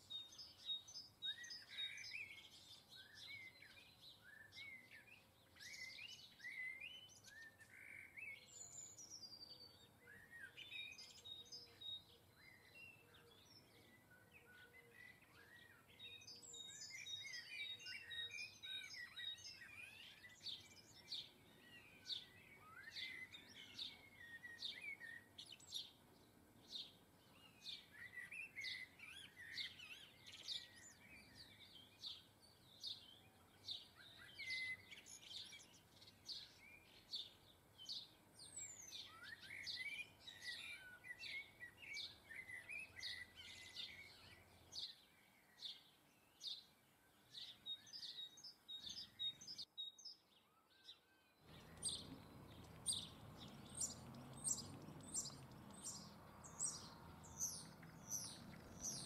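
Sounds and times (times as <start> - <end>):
small birds chirping and calling: 0.0 - 59.0.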